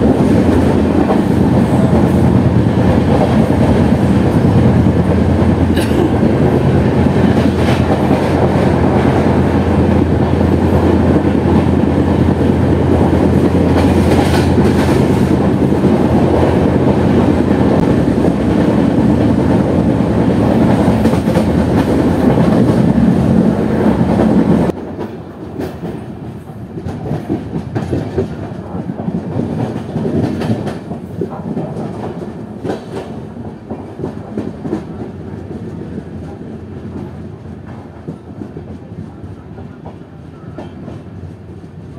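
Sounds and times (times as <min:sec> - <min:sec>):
passenger train running on track: 0:00.0 - 0:41.9.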